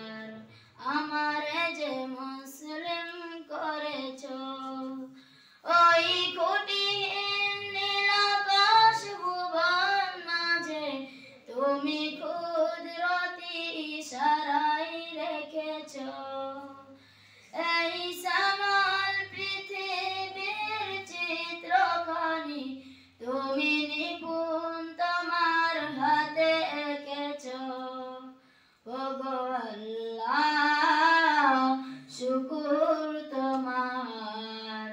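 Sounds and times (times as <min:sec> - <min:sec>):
child singing unaccompanied: 0:00.0 - 0:34.9.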